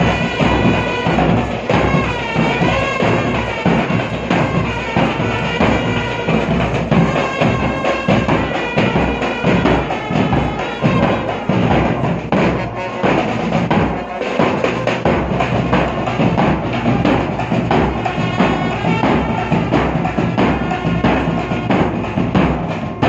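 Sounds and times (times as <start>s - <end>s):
bass and side drums beating: 0.0s - 23.0s
saxophone and trumpet melody: 0.0s - 23.0s
street band playing: 0.0s - 23.0s.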